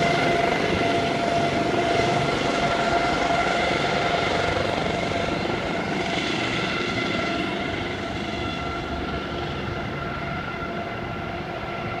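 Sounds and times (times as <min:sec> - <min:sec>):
helicopter flying away: 0:00.0 - 0:12.0.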